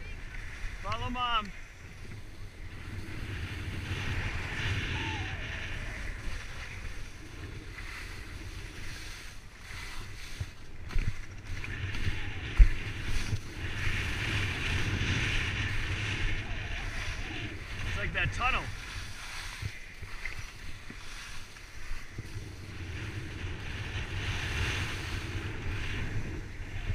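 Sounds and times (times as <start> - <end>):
skis scraping over snow: 0.0 - 26.9
wind buffeting microphone: 0.0 - 26.9.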